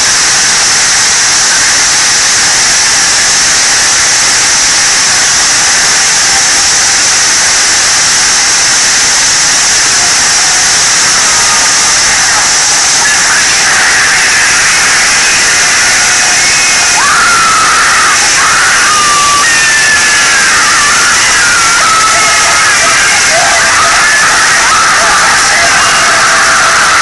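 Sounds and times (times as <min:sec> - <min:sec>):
loud steady hissing noise: 0:00.0 - 0:27.0.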